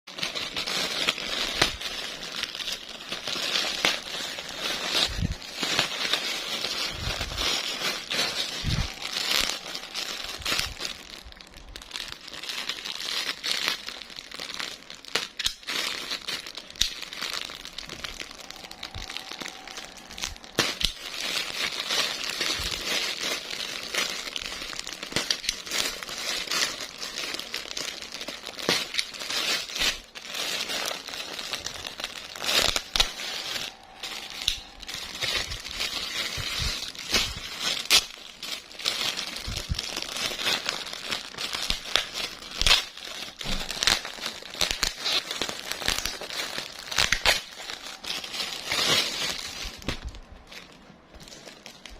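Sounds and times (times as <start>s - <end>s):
packaging crinkling and rustling: 0.1s - 51.9s.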